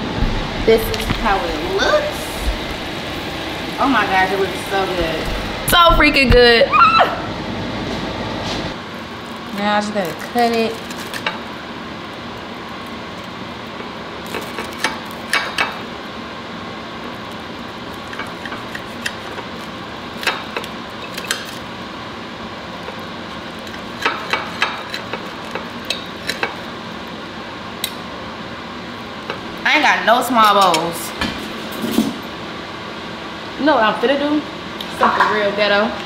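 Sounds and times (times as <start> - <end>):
steady background noise: 0.0 - 36.0.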